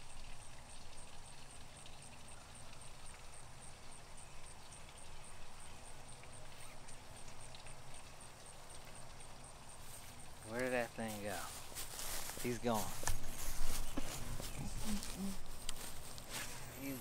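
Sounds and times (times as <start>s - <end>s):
insect chirping: 0.0s - 17.0s
low steady hum: 0.0s - 17.0s.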